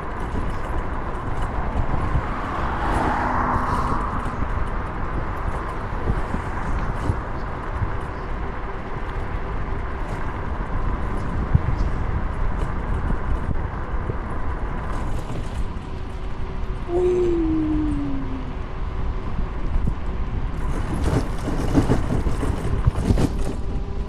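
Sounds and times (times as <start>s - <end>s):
wind and road noise rumble: 0.0s - 24.0s.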